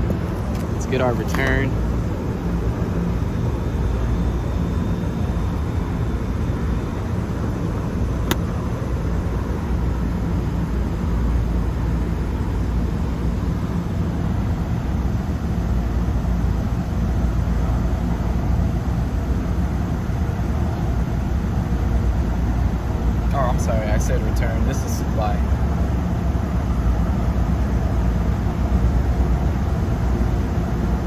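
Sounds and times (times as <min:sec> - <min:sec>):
rooftop air conditioner rumbling: 0:00.0 - 0:31.0.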